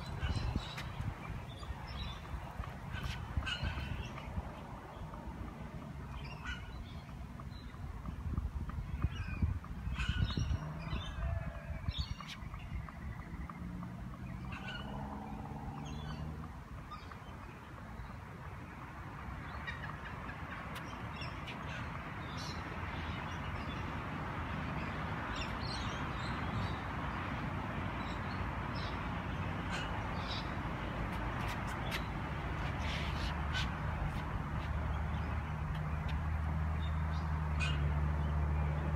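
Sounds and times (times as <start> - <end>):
birds calling: 0.0 - 7.8, 8.8 - 38.3.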